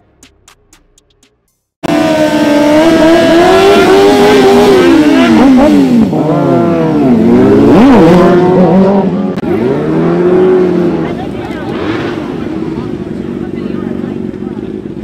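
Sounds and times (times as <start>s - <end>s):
motorcycle engines revving: 1.8s - 15.0s.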